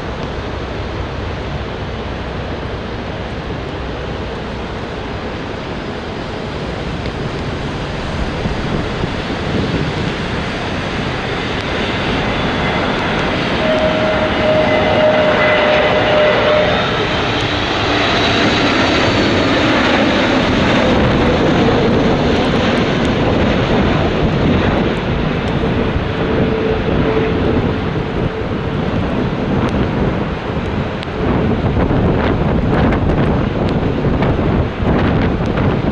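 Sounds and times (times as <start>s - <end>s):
jet airliner passing: 0.0s - 35.9s.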